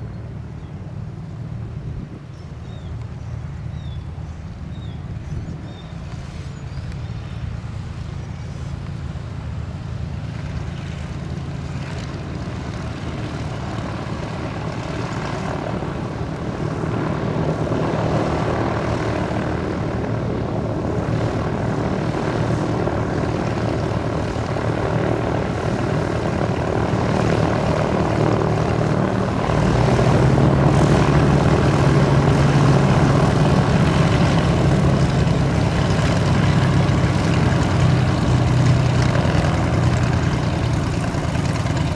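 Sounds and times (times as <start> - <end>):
propeller aircraft engines droning: 0.0 - 41.9.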